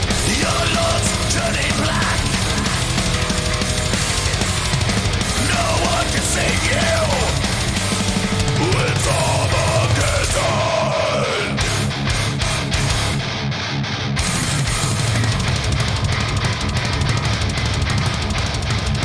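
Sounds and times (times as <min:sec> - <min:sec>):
bending lead guitar line: 0:00.0 - 0:19.0
distorted electric guitars: 0:00.0 - 0:19.0
drums and bass: 0:00.0 - 0:19.0.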